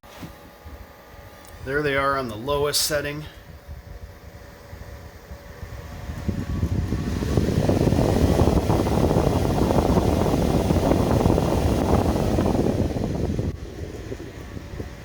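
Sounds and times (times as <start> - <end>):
computer fans blowing air: 0.0 - 15.0
air buffeting microphone: 0.1 - 15.0.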